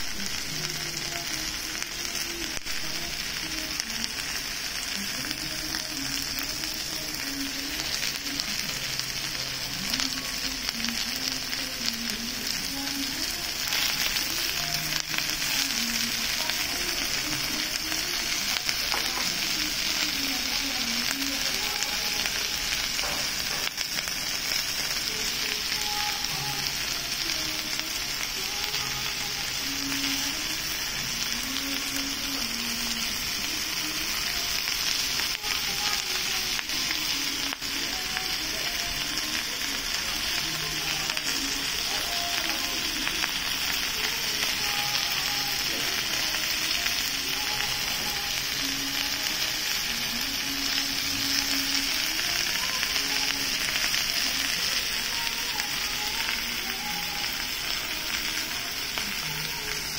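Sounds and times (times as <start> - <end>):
food sizzling on a grill pan: 0.0 - 59.9.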